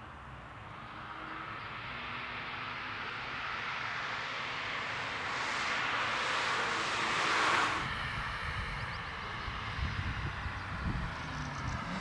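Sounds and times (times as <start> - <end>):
distant car engine and tyres: 0.0 - 12.0.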